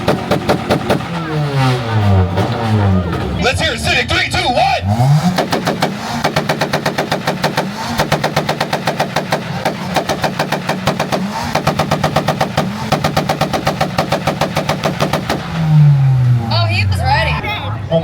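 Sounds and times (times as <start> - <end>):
exhaust popping rapidly: 0.0 - 3.7, 4.5 - 17.4
car engine on rev limiter: 0.0 - 18.0.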